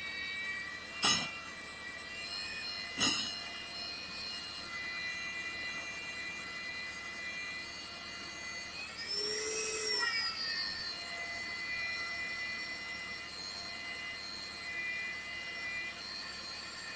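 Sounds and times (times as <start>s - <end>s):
magnetic drill whining: 0.0s - 16.9s.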